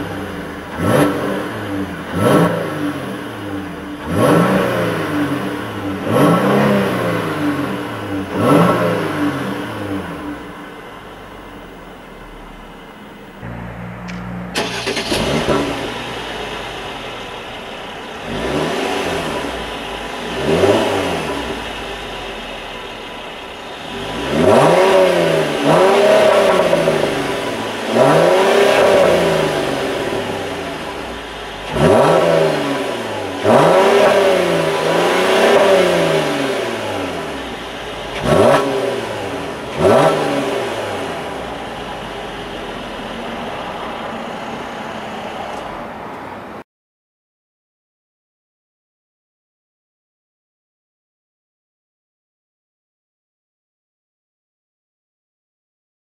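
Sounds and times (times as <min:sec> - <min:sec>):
car engine idling and revving: 0:00.0 - 0:46.6.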